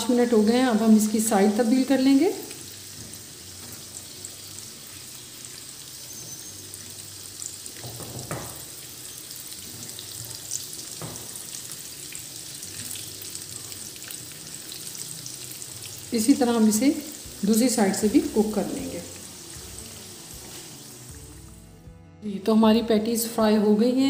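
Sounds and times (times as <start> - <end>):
food sizzling in oil: 0.0 - 21.6.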